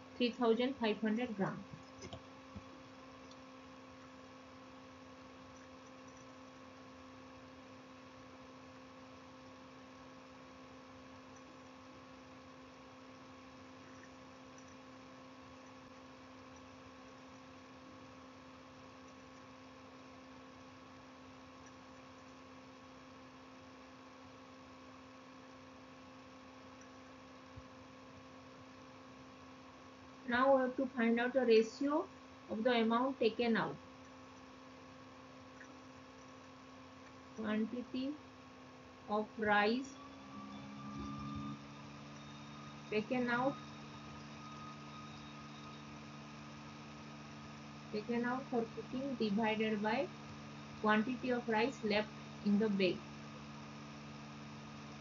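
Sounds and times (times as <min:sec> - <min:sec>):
faint electrical hum: 0:00.0 - 0:55.0.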